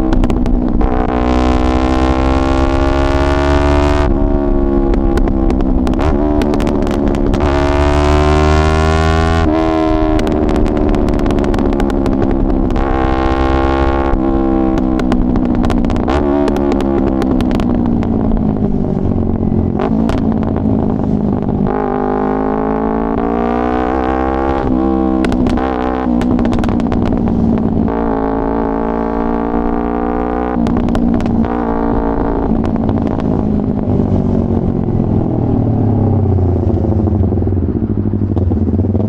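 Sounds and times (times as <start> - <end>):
exhaust pops and crackles: 0.0 - 35.9
motorcycle engine revving: 0.0 - 39.0.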